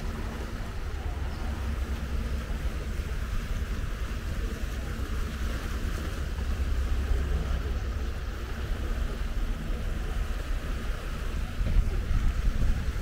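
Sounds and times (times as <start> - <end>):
sea surf: 0.0 - 13.0
wind buffeting microphone: 0.0 - 13.0.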